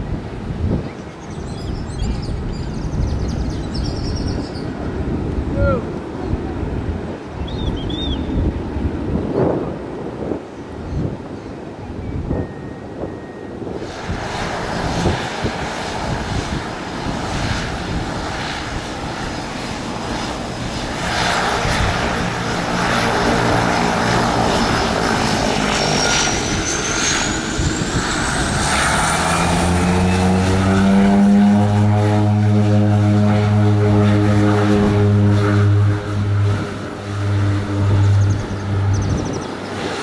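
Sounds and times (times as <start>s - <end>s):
aircraft engines whining: 0.0s - 40.0s.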